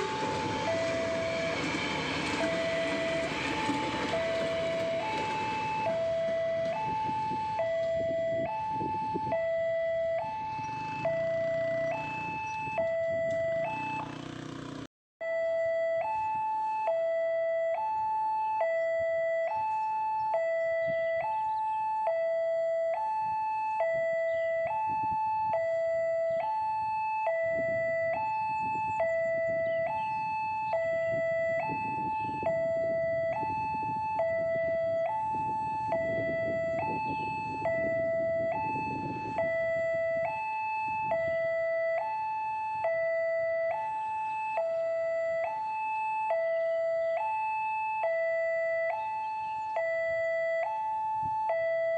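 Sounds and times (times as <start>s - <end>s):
two-tone crossing alarm: 0.0s - 51.9s.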